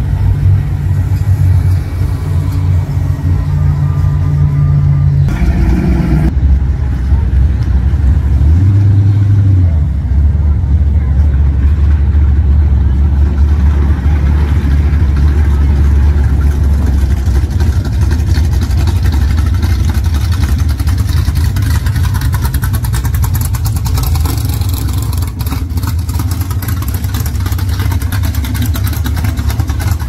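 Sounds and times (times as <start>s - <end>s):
car engines rumbling past: 0.0s - 30.0s.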